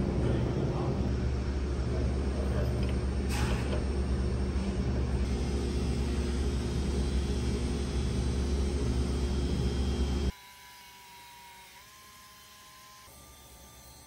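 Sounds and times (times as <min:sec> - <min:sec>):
machine hum and hiss: 0:00.0 - 0:14.0.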